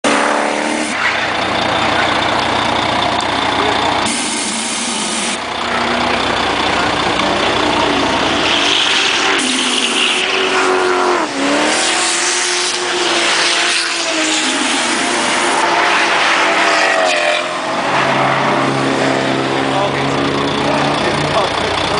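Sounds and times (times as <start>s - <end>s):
engines revving: 0.0s - 21.9s
steady noisy rush: 0.0s - 21.9s.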